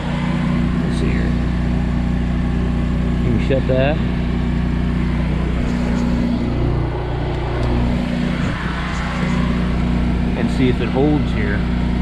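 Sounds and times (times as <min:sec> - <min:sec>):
vacuum pump humming: 0:00.0 - 0:12.0.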